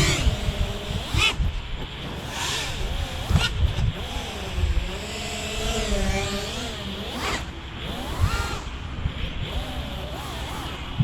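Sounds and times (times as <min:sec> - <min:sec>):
drone motors whining: 0:00.0 - 0:11.0
wind rumble on microphone: 0:00.0 - 0:11.0.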